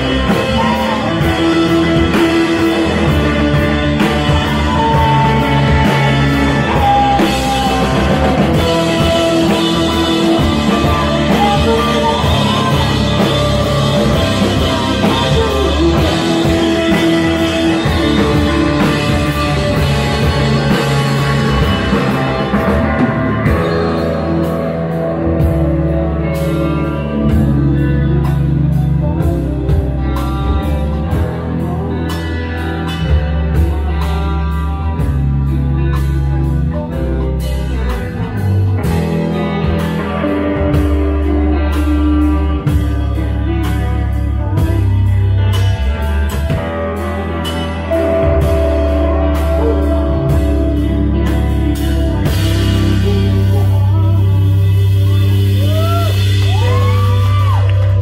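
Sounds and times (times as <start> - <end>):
drum kit: 0.0 - 58.0
electric guitar: 0.0 - 58.0
keyboard: 0.0 - 58.0.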